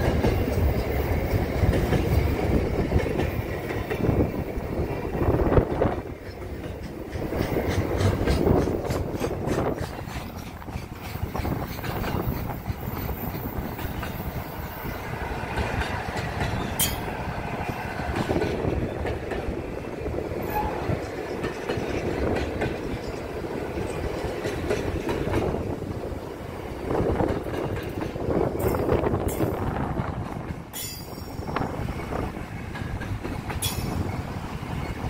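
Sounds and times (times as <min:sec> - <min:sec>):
wheels clicking over rail joints: 0:00.0 - 0:35.0.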